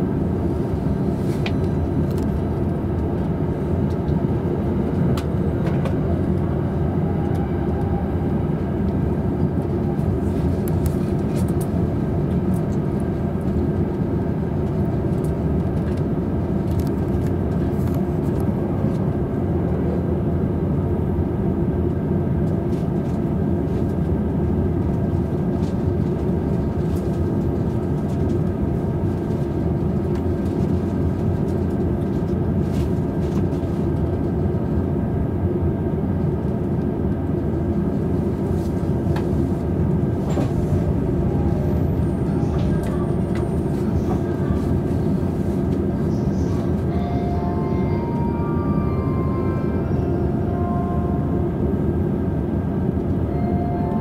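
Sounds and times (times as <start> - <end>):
train cabin hum and rolling: 0.0 - 54.0.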